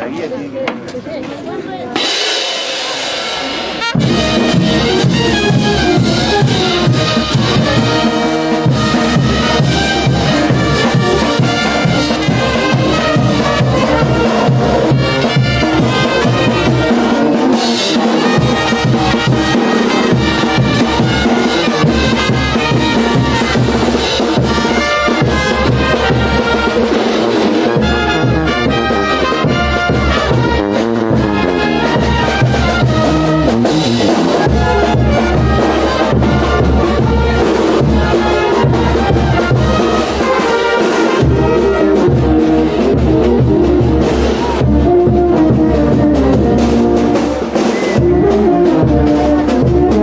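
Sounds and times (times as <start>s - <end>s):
brass band playing: 1.9s - 50.0s.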